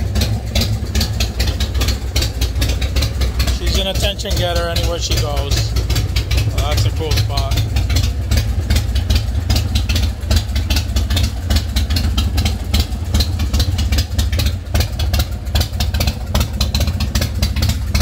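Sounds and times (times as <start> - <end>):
motorcycle idling: 0.0 - 18.0.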